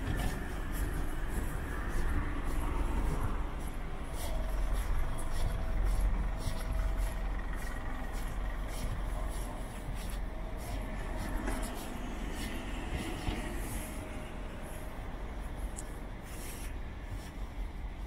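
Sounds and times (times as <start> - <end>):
footsteps on pavement: 0.0 - 18.0
low street rumble: 0.0 - 18.0.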